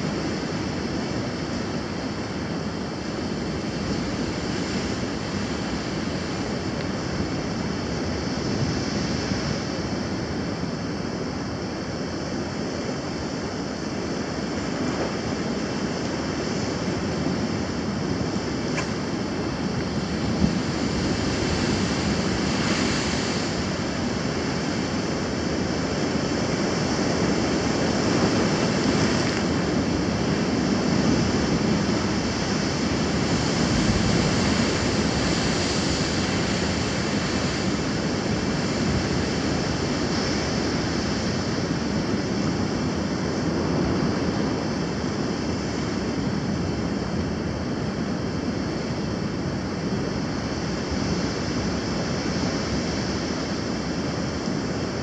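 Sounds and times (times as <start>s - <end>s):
ocean surf over rocks: 0.0s - 55.0s.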